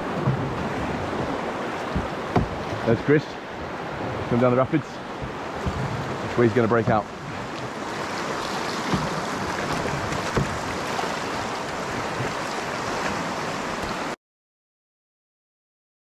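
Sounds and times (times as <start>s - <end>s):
river rapids rushing: 0.0s - 14.2s.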